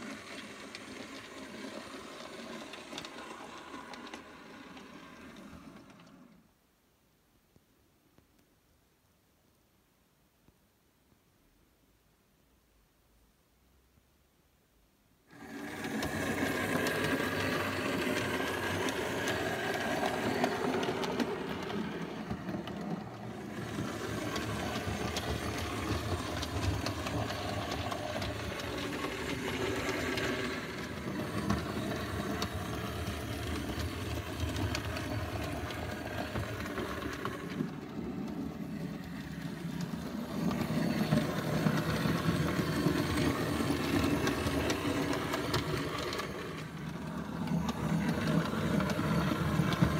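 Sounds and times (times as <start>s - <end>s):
model train running on track: 0.0s - 6.4s, 15.3s - 49.9s.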